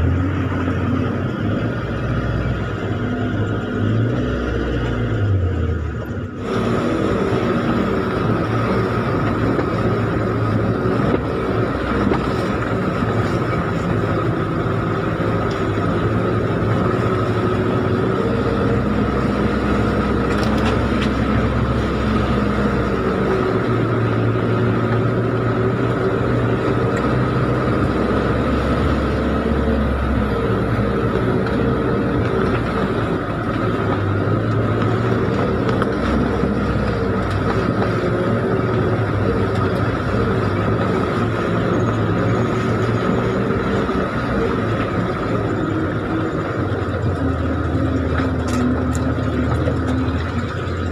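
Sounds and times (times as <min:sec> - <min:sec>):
off-road vehicle engine at low revs: 0:00.0 - 0:50.9
steady whine: 0:00.0 - 0:50.9.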